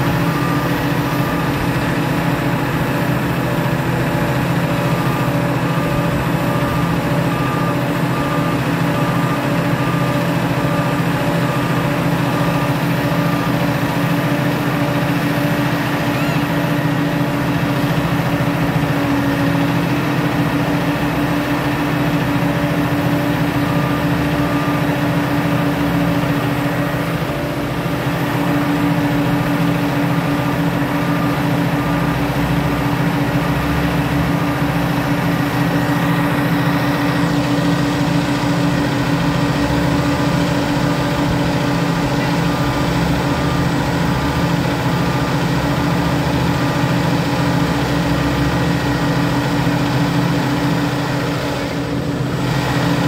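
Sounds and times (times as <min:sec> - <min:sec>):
reversing alarm beeping: 0:00.0 - 0:52.0
heavy engine running: 0:00.0 - 0:53.0.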